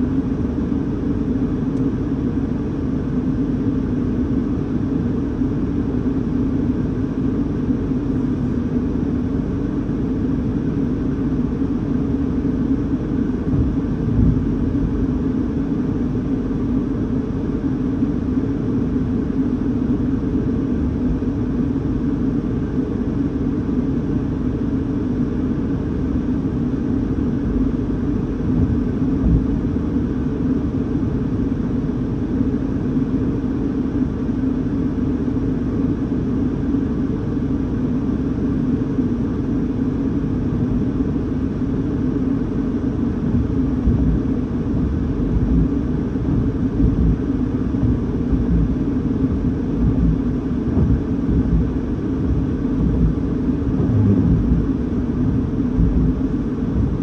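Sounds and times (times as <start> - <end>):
muffled low rumble in car cabin: 0.0 - 57.0.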